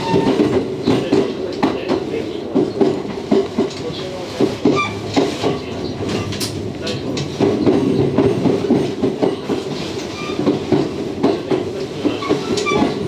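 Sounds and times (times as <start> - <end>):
train wheel and rail rumble: 0.0 - 13.0
wheels clicking over rail joints: 0.0 - 13.0.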